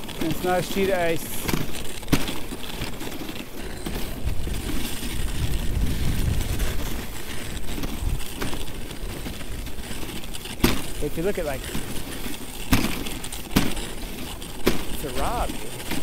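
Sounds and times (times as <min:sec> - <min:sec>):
sled runners scraping snow: 0:00.0 - 0:16.0.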